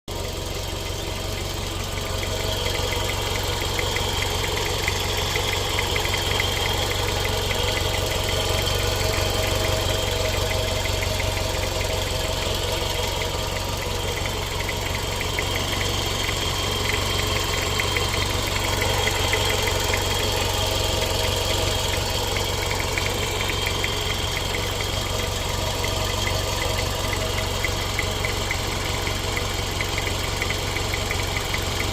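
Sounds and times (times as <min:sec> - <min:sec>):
car engine idling: 0:00.1 - 0:31.9
engine knocking tick: 0:00.1 - 0:31.9.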